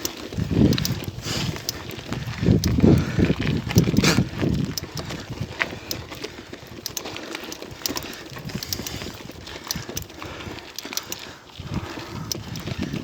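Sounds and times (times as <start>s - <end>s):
bicycle tyres crunching over gravel: 0.0s - 13.0s
sharp clicks and rattles: 0.0s - 13.0s.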